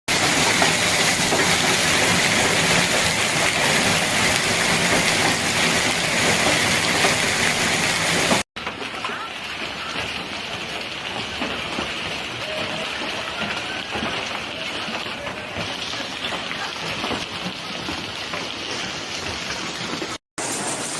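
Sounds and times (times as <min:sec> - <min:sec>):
hail and rain striking surfaces: 0:00.1 - 0:20.9.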